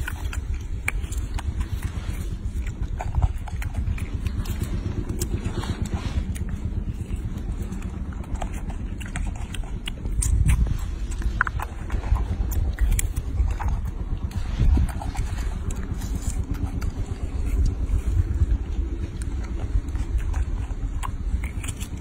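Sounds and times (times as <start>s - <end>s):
monkey chewing and smacking: 0.0s - 22.0s
steady low rumble: 0.0s - 22.0s.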